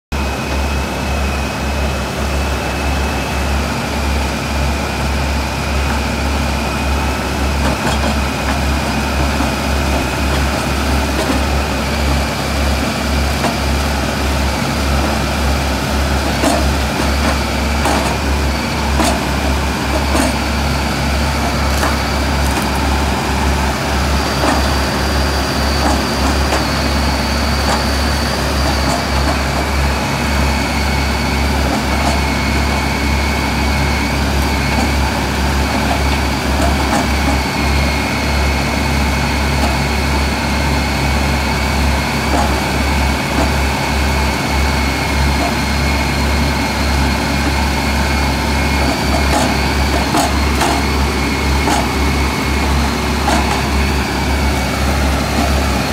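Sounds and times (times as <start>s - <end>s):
diesel engine running: 0.1s - 55.9s
high whine: 0.1s - 55.9s.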